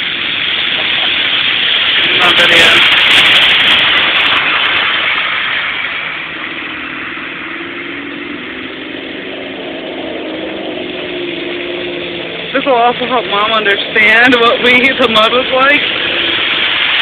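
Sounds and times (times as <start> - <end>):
loud rush of noise: 0.0 - 17.0
truck engine running: 0.0 - 17.0.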